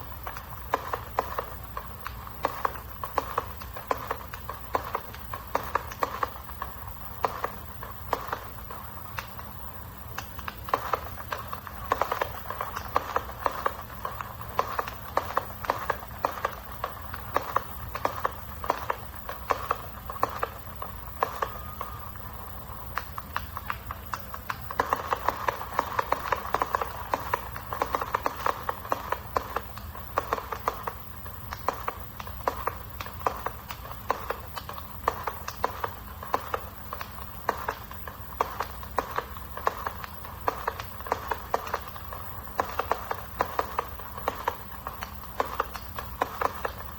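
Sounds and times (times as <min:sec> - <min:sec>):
fireworks popping: 0:00.0 - 0:46.9.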